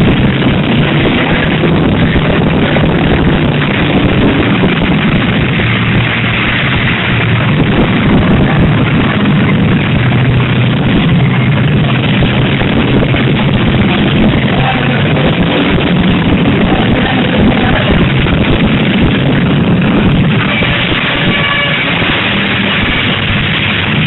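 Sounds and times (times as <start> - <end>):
car engines running and revving: 0.0 - 24.0.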